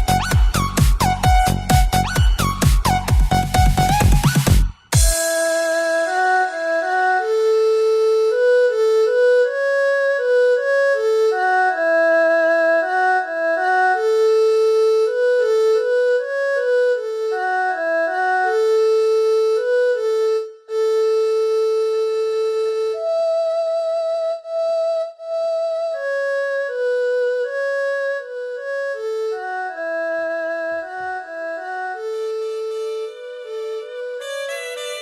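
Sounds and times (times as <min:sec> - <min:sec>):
slow single-note melody: 0:04.8 - 0:35.0.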